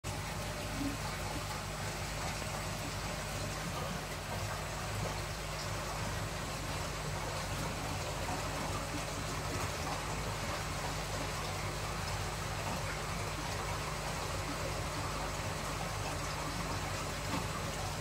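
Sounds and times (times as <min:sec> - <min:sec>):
low pump hum: 0:00.0 - 0:18.0
water trickling and splashing: 0:00.0 - 0:18.0.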